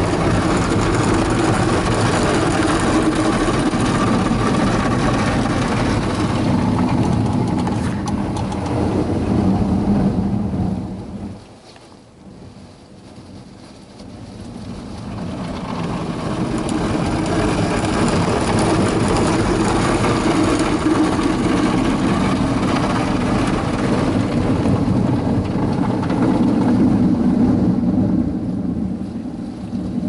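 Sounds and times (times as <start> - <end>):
car wash brushes and water spray: 0.0 - 11.4, 13.4 - 29.0.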